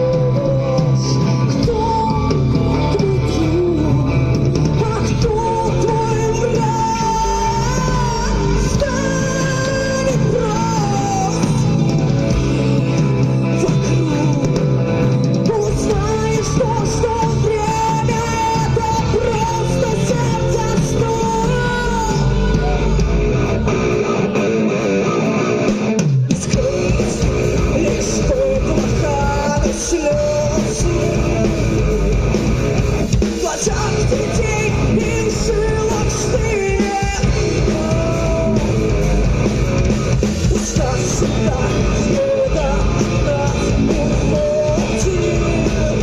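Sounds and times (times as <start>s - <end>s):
person singing: 0.0s - 24.4s, 26.3s - 46.0s
rock band playing: 0.0s - 46.0s.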